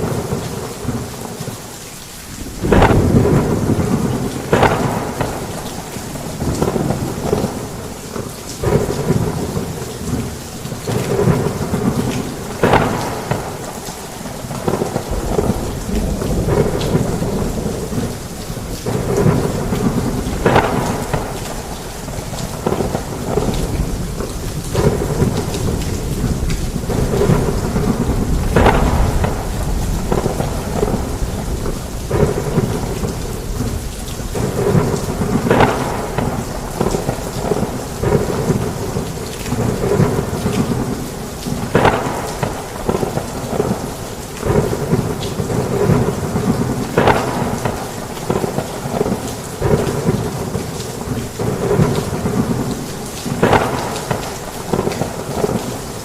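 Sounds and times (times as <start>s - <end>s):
heavy rain on a roof: 0.0s - 56.0s
sharp thunder cracks: 2.4s - 7.8s, 10.9s - 55.6s
thunder rumbling: 2.4s - 56.0s.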